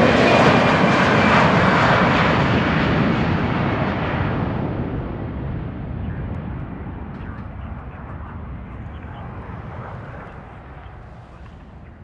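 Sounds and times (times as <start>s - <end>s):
jet engines at takeoff: 0.0s - 12.0s.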